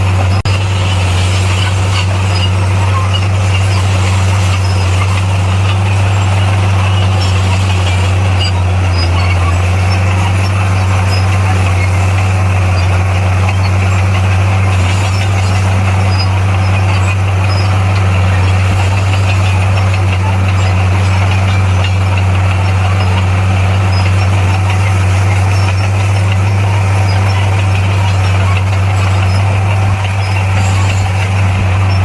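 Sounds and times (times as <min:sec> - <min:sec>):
heavy diesel engine droning: 0:00.0 - 0:32.0.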